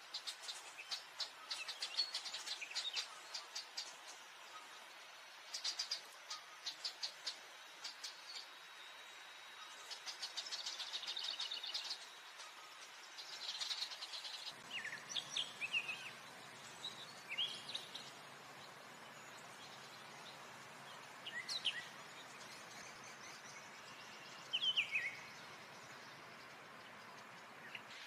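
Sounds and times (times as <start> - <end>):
faint low background noise: 0.0 - 28.0
small birds chirping: 0.0 - 28.0.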